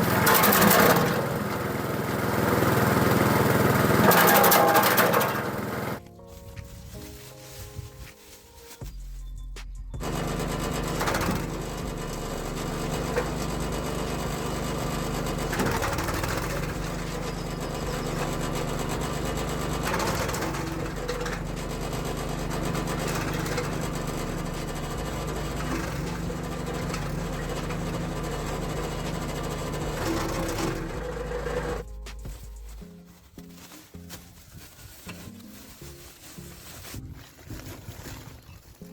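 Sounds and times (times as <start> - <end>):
branch chipper petrol engine running: 0.0 - 6.0, 10.0 - 38.6.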